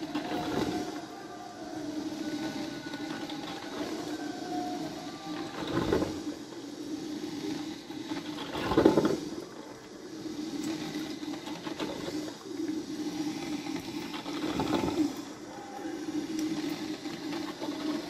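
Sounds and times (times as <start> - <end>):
coffee maker gurgling and hissing: 0.0 - 18.0.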